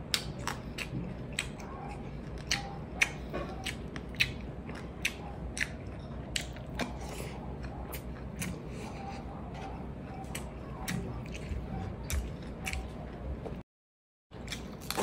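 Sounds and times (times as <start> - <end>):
wet chewing: 0.0 - 13.6.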